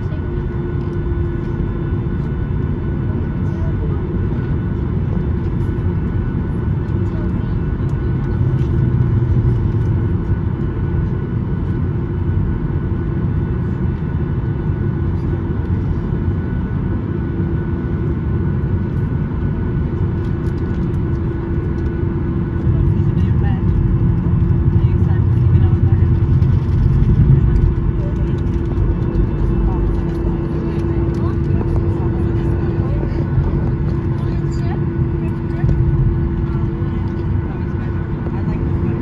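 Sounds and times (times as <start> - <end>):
jet engines rumbling in cabin: 0.0 - 39.0.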